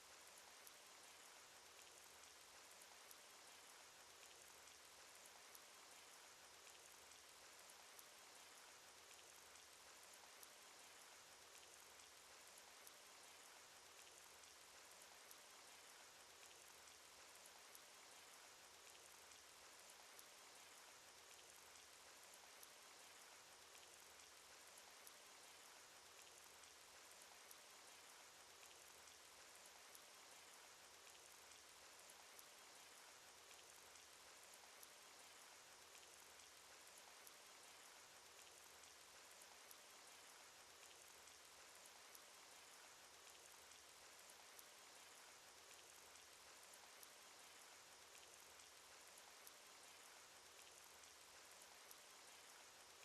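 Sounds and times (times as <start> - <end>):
faint steady rainfall: 0.0 - 53.0
raindrops ticking: 5.4 - 53.0.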